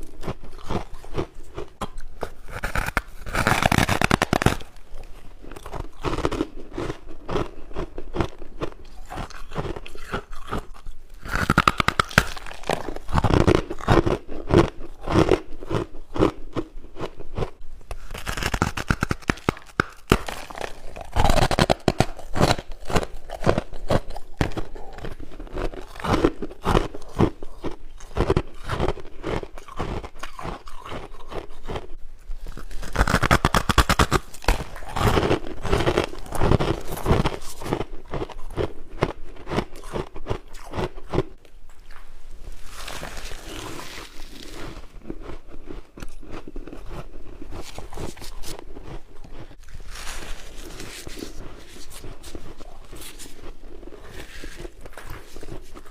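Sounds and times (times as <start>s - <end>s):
person chewing ice: 0.0s - 55.9s.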